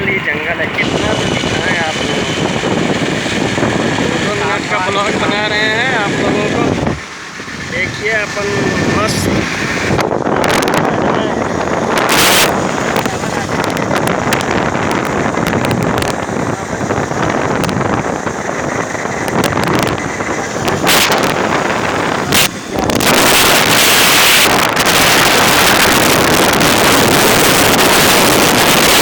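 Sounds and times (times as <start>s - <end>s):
road and engine noise: 0.0s - 29.0s
wind rushing over microphone: 0.0s - 29.0s.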